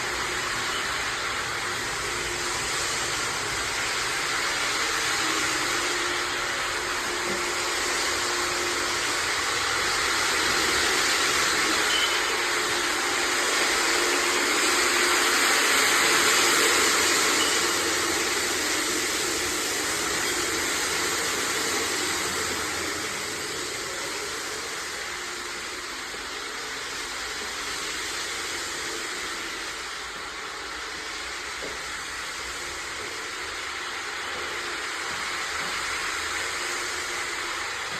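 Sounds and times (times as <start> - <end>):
floor-care machine whooshing hiss: 0.0 - 37.9.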